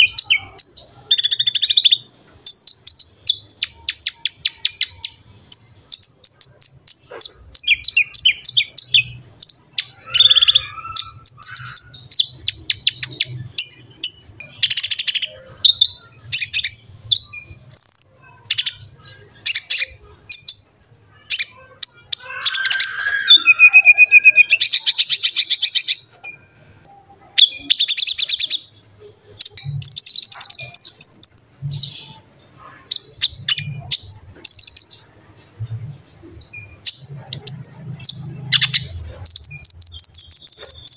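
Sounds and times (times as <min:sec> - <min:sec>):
bird singing with trills: 0:00.0 - 0:40.9.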